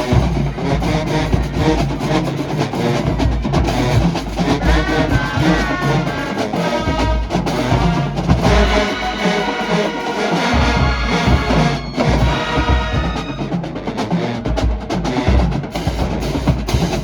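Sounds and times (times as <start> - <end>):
brass section playing chords: 0.0 - 14.6
drumline hits: 0.0 - 17.0.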